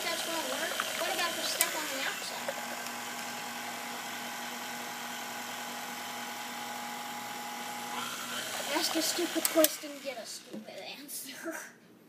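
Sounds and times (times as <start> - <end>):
stand mixer motor humming: 0.0 - 10.5.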